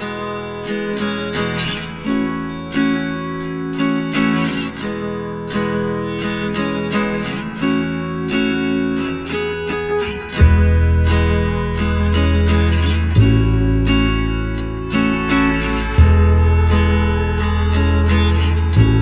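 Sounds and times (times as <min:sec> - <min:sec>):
plucked guitar chords: 0:00.0 - 0:19.0.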